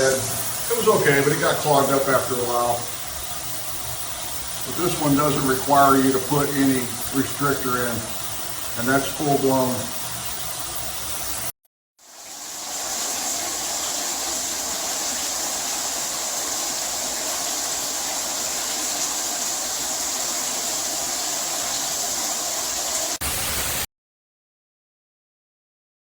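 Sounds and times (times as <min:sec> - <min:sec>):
shower water hissing: 0:00.0 - 0:23.9.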